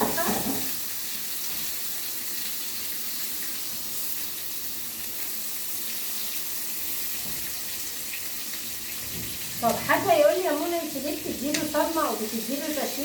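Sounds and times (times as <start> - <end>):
fish skewers sizzling: 0.0 - 13.0.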